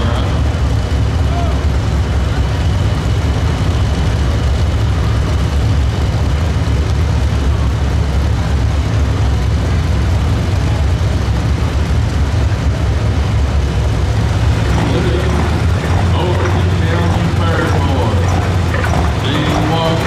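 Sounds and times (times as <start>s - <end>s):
diesel truck engine at high revs: 0.0s - 20.0s.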